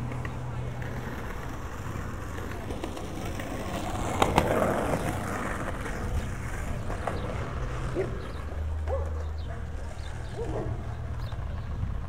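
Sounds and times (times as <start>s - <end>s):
low street hum: 0.0s - 12.0s
rolling noise: 0.0s - 12.0s.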